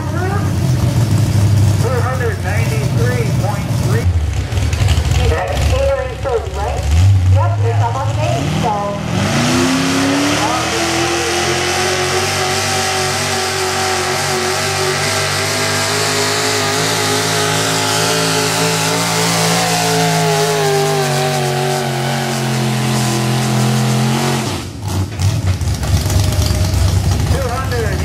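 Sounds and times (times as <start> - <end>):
low rough engine rumble: 0.0 - 9.3, 10.0 - 28.0
truck engine at full throttle: 0.0 - 28.0.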